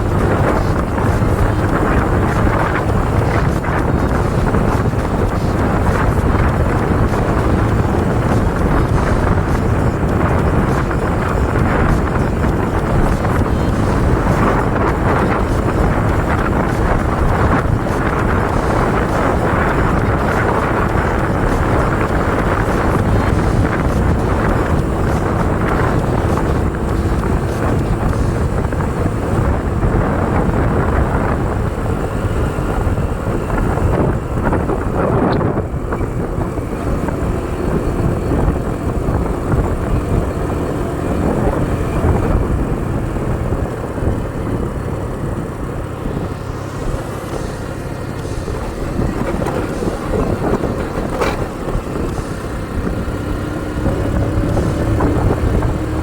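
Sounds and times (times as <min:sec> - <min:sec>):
motorcycle engine rumble: 0:00.0 - 0:56.0
road noise: 0:00.0 - 0:56.0.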